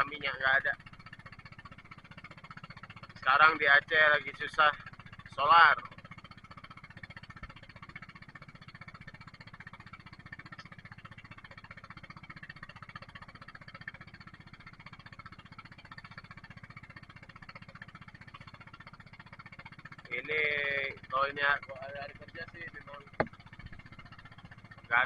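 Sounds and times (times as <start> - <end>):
boat engine chugging: 0.0 - 25.0.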